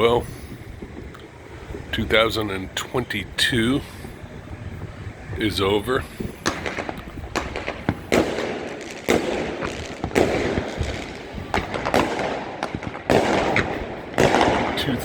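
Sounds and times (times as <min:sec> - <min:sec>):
fireworks exploding: 0:00.0 - 0:15.0.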